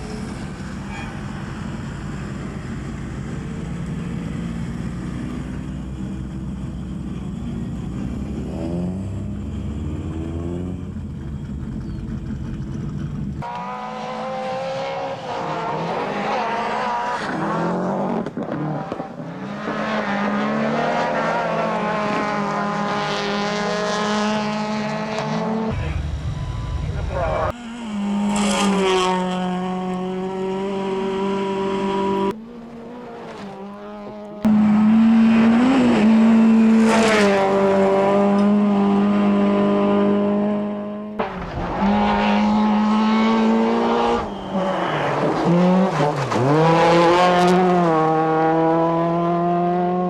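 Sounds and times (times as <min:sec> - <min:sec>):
rally car engine revving: 0:02.4 - 0:50.0.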